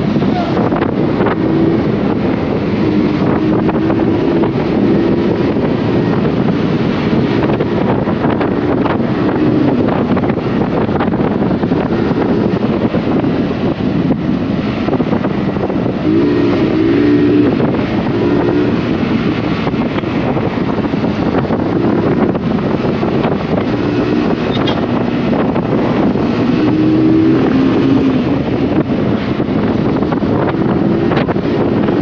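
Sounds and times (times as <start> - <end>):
motorcycle engine running: 0.0 - 32.0
wind rushing over microphone: 0.0 - 32.0.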